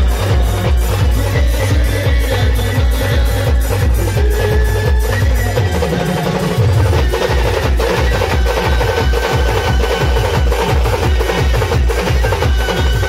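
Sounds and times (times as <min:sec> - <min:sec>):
bass and side drums beating: 0:00.0 - 0:13.0.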